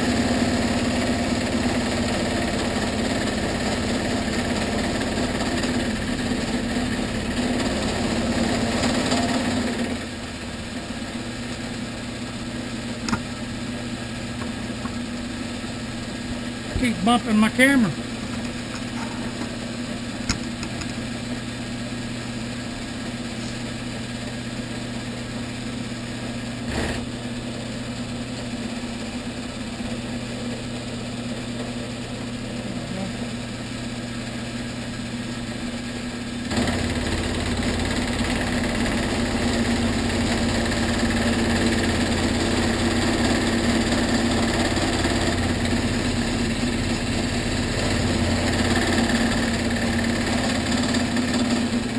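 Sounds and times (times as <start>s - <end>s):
milling machine spindle running: 0.0s - 51.9s.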